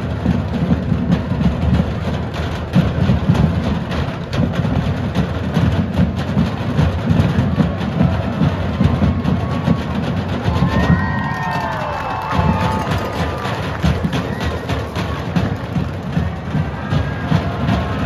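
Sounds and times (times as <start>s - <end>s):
drums beating busy rhythm: 0.0s - 18.0s
marching band playing: 0.0s - 18.0s.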